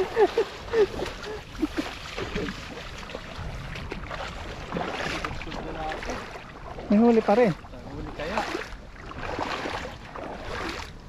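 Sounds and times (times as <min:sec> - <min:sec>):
water splashing from wading: 0:00.0 - 0:11.0.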